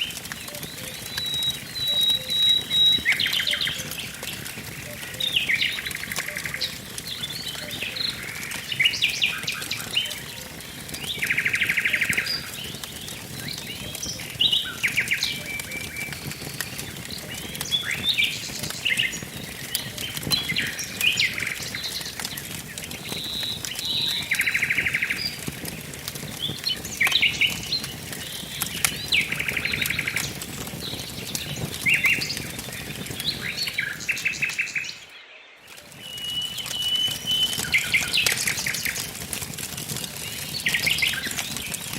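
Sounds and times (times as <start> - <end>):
songbirds singing: 0.0 - 41.9
wood fire crackling: 0.0 - 41.9.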